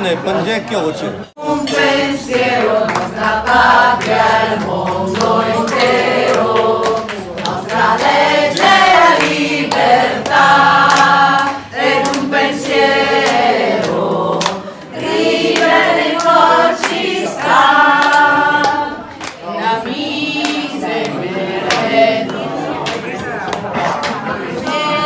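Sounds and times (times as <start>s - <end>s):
group singing unaccompanied: 1.3s - 25.0s.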